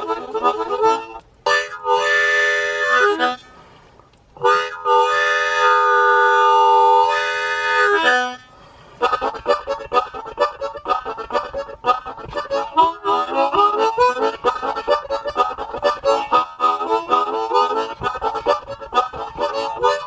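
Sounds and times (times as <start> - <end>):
harmonica playing chords: 0.0 - 3.6, 4.4 - 20.0.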